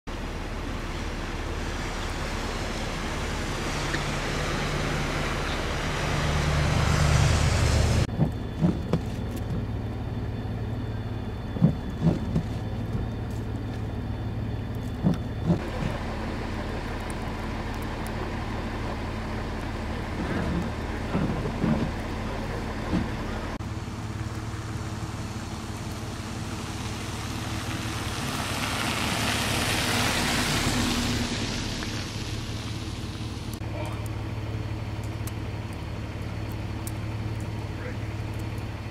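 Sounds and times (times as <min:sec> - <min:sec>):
vehicle engine hum: 0:00.1 - 0:38.9.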